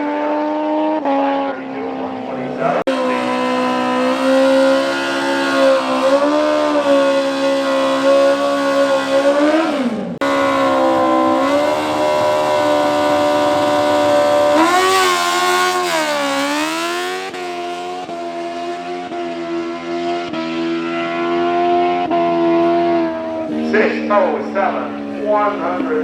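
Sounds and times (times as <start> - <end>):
motorcycle engines revving high: 0.0 - 26.0.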